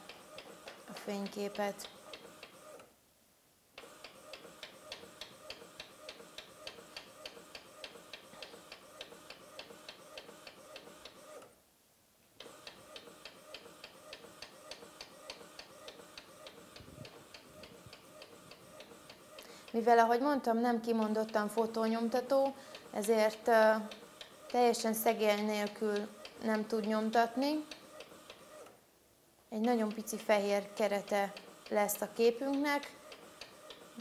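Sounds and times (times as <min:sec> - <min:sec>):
inkjet printer printing: 0:00.0 - 0:02.9, 0:03.8 - 0:11.5, 0:12.4 - 0:28.8, 0:29.6 - 0:34.0.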